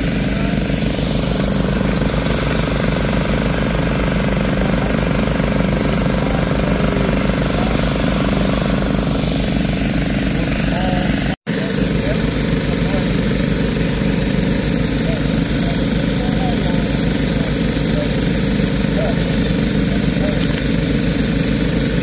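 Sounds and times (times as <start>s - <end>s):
small gasoline engines running: 0.0s - 22.0s.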